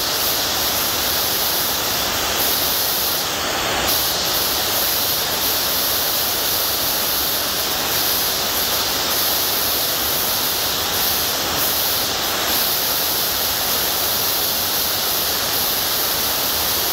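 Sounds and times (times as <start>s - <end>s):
loud static hiss: 0.0s - 16.9s.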